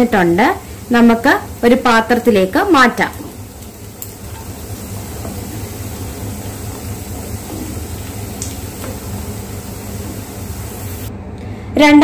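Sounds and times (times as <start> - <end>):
sausage sizzling in a pan: 0.0 - 11.1
low even hum: 0.0 - 12.0.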